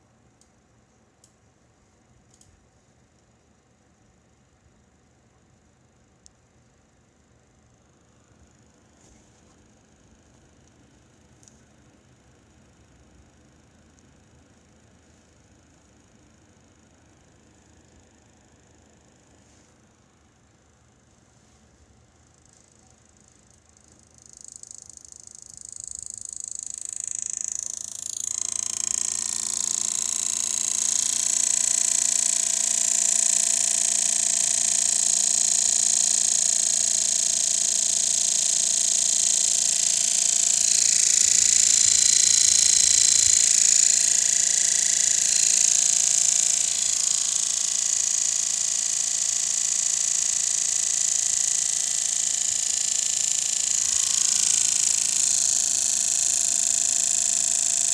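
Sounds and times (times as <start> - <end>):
graphics card fan whining: 7.8 - 57.9.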